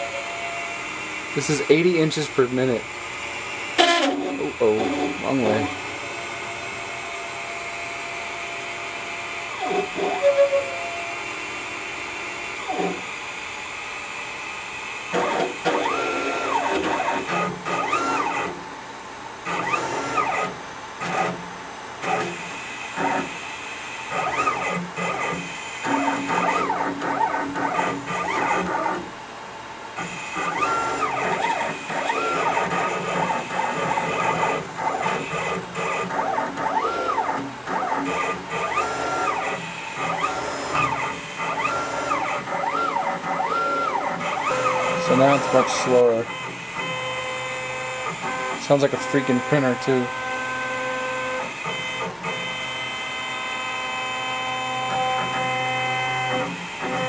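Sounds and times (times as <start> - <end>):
stepper motors whining: 0.0 - 18.6, 22.0 - 29.1, 30.0 - 57.0.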